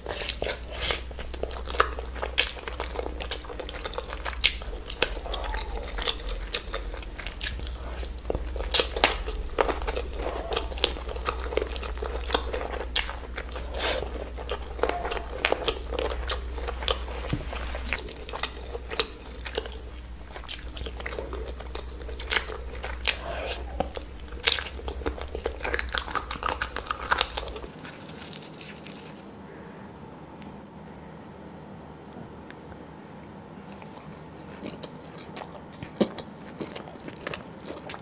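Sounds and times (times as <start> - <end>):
person chewing food: 0.0 - 29.3, 33.6 - 38.0
low steady hum: 0.0 - 38.0.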